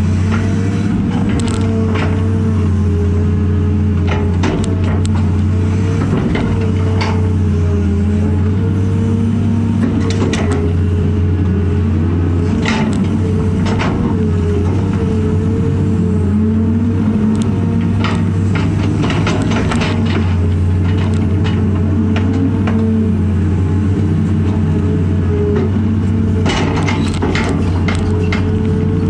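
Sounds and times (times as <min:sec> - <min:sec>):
excavator engine hum and whine: 0:00.0 - 0:29.0.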